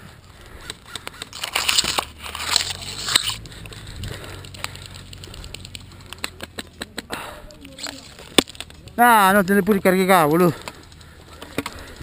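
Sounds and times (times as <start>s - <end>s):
leaves and branches rustling: 0.0s - 12.0s.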